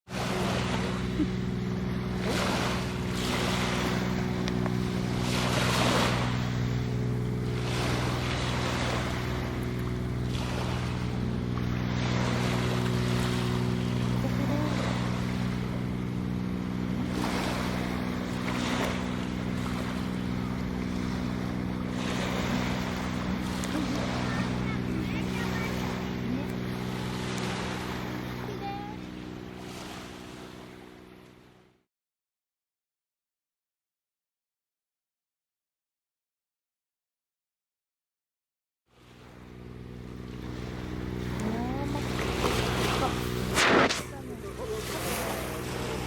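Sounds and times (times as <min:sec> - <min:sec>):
waves washing on shore: 0:00.1 - 0:31.5, 0:39.0 - 0:46.0
low mechanical hum: 0:00.1 - 0:31.8, 0:39.0 - 0:46.0
wind: 0:00.1 - 0:31.8, 0:38.9 - 0:46.0.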